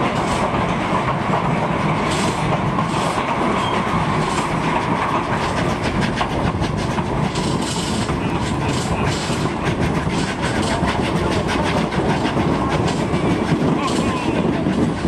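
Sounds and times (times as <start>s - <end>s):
train wheels rumbling on rail: 0.0s - 15.0s
rapid clicking and rattling: 0.1s - 15.0s.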